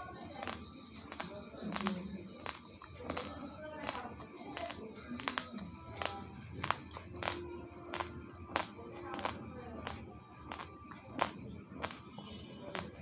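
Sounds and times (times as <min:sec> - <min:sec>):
rice grains being chewed: 0:00.4 - 0:12.0.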